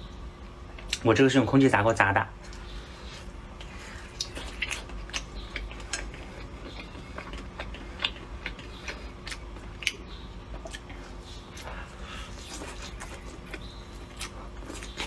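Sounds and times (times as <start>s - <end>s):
faint steady hum: 0.0s - 15.0s
mouth clicks chewing food: 2.4s - 15.0s.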